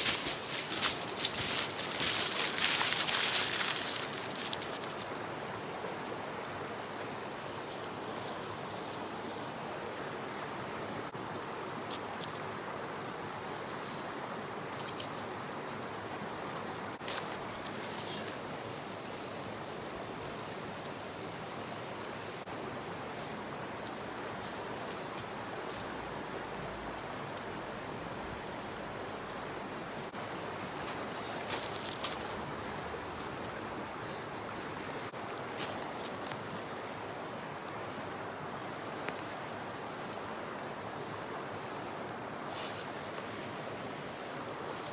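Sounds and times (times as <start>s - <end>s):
river running: 0.0s - 44.9s.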